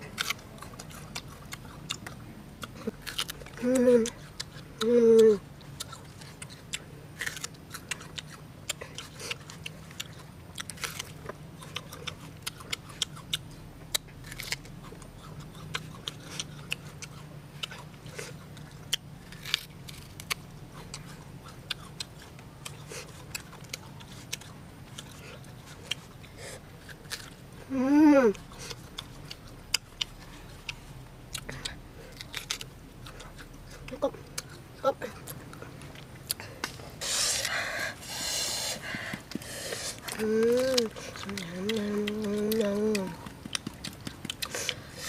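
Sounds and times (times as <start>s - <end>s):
faint low hum: 0.0s - 45.0s
person chewing crunchy fruit: 0.0s - 45.0s.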